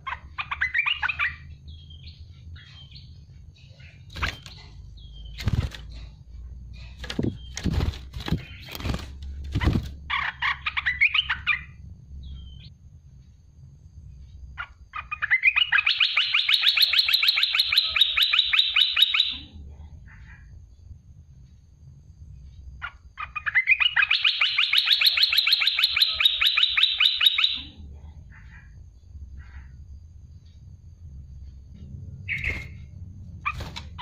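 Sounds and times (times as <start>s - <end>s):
bird chirping: 0.0s - 12.8s, 14.2s - 19.5s, 22.4s - 30.7s, 31.4s - 34.0s.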